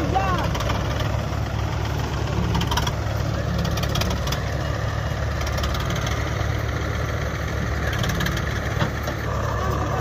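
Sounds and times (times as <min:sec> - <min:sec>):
tractor diesel engine rumbling: 0:00.0 - 0:10.0.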